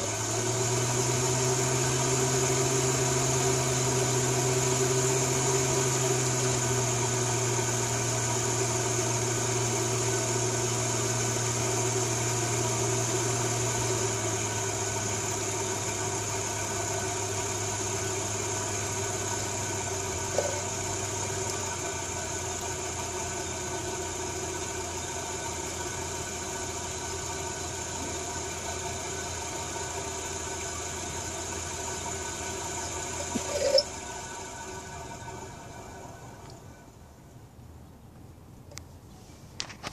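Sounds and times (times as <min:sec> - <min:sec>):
forge blower humming: 0:00.0 - 0:37.0.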